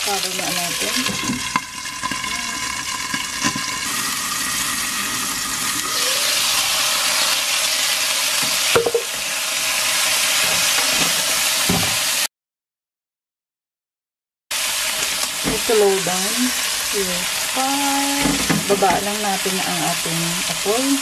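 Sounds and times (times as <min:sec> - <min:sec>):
chicken sizzling in hot oil: 0:00.0 - 0:12.3, 0:14.5 - 0:21.0.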